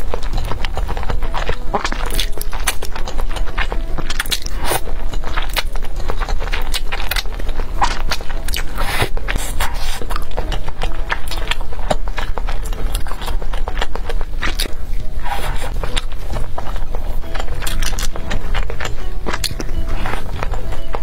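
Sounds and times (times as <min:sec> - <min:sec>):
wet chewing with mouth clicks: 0:00.0 - 0:21.0.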